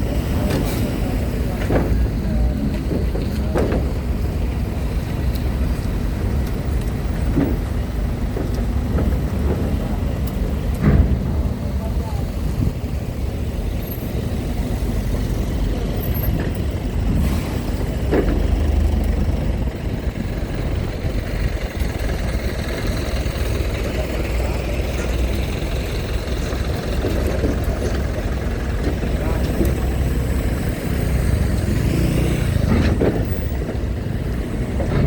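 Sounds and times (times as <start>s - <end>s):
vehicle engines idling: 0.0s - 35.0s.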